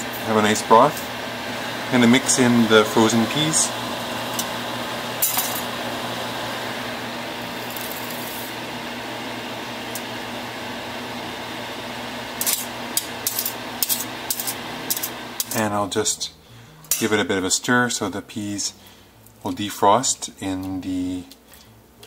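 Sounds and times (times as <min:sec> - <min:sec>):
kitchen fan hum: 0:00.0 - 0:22.0.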